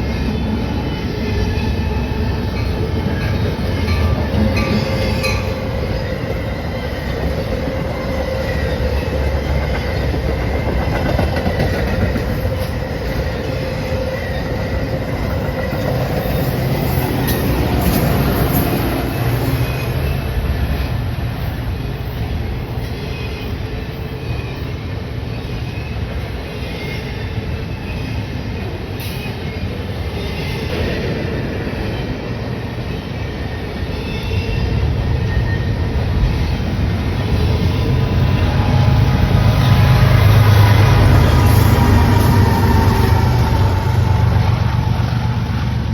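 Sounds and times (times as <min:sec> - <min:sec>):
train rolling on rails: 0:00.0 - 0:45.9.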